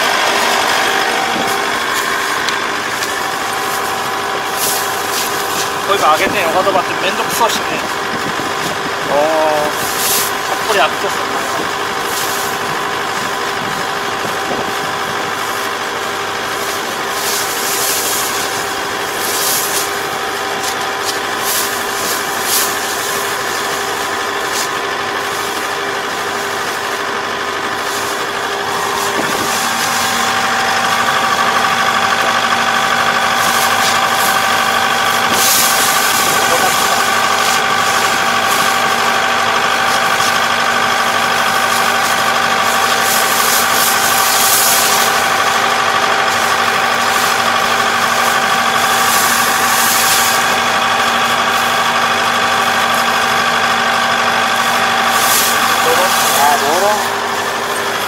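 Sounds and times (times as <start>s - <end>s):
combine harvester engine hum: 0.0s - 58.0s
high machine whine: 0.0s - 58.0s.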